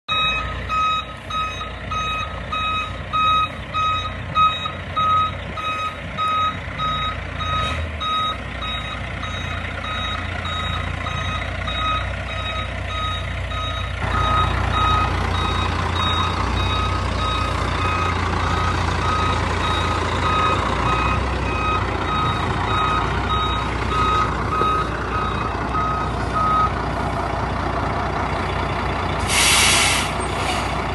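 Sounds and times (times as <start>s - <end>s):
back-up alarm beeping: 0.1s - 26.8s
truck engine rumble: 0.1s - 30.9s.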